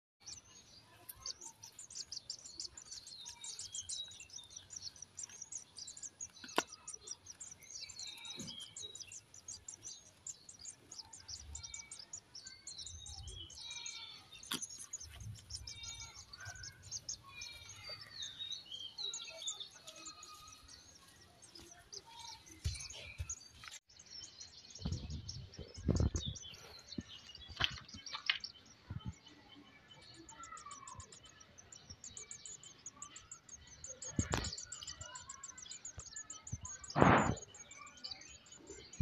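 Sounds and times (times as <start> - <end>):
nestling birds cheeping: 0.2 - 39.0.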